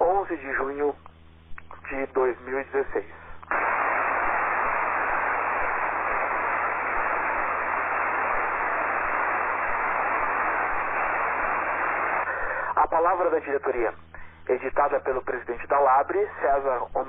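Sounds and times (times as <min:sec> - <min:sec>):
faint low hum: 0:00.0 - 0:17.0
shortwave radio static hiss: 0:00.0 - 0:17.0.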